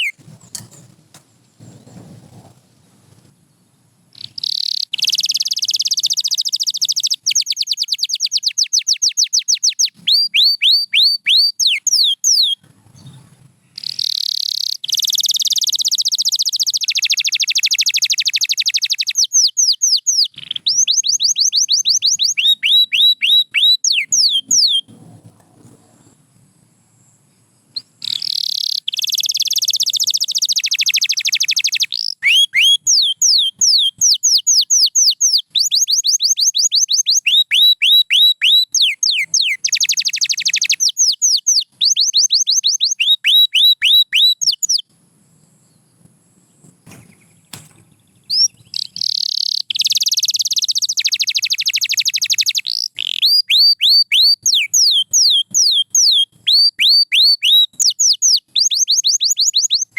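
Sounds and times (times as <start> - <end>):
canary singing: 0.0 - 1.0, 4.1 - 26.1, 27.7 - 44.9, 45.7 - 59.9.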